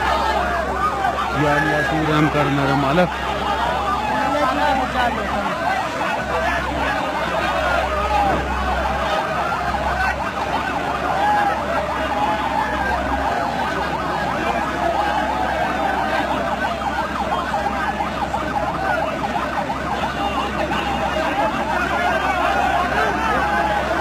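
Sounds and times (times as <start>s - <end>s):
large crowd shouting: 0.0s - 24.0s.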